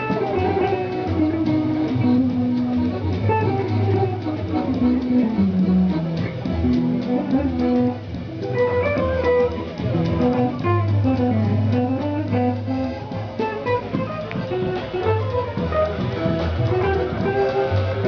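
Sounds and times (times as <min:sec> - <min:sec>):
bass: 0:00.0 - 0:18.0
guitar: 0:00.0 - 0:18.0
melody line of held notes: 0:00.0 - 0:18.0.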